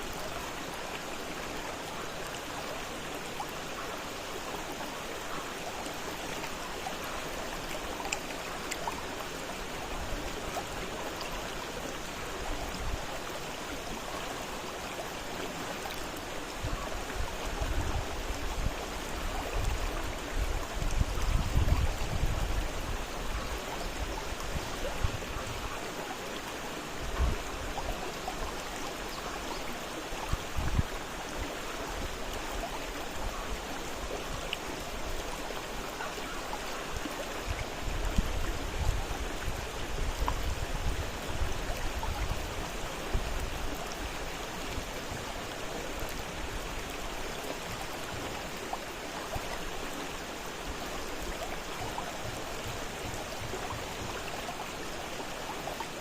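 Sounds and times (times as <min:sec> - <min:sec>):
low water surges: 0:00.0 - 0:56.0
river rushing: 0:00.0 - 0:56.0.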